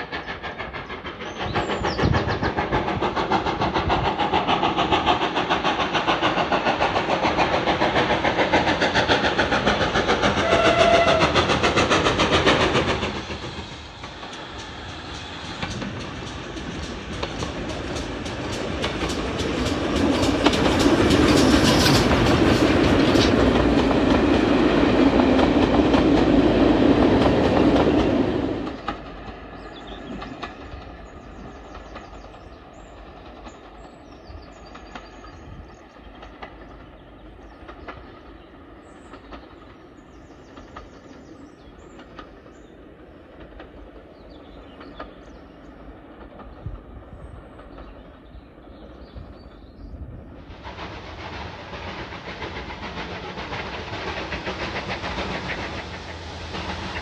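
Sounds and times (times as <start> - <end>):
train wheels clattering over rail joints: 0.0 - 49.8, 50.5 - 57.0.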